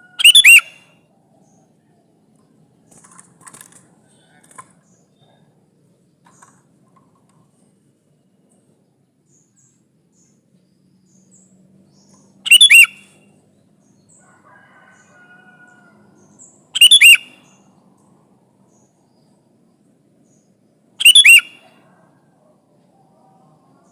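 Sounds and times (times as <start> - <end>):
bird singing: 0.0 - 3.2, 3.9 - 23.9.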